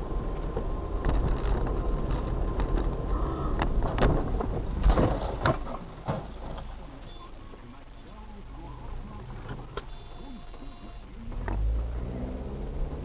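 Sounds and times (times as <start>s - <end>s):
moving car rumble: 0.0s - 13.0s.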